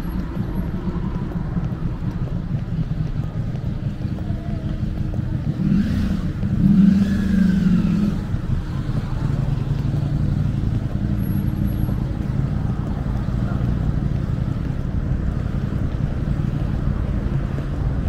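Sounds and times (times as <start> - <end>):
city traffic rumble: 0.0 - 18.0
vehicle passing: 0.0 - 18.0.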